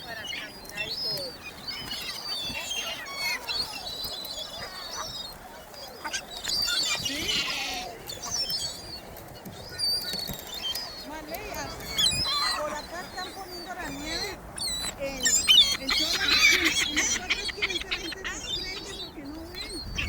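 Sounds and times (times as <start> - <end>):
flock of birds chirping: 0.0 - 20.0.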